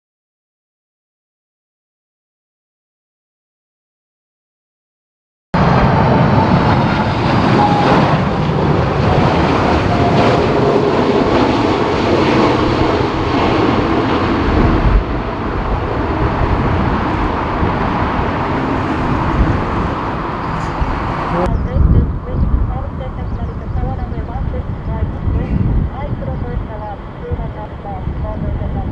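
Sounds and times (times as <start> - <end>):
faint engine whine: 5.6 - 28.9
jet engines roaring: 5.6 - 28.9
wind rumbling on microphone: 5.6 - 28.9.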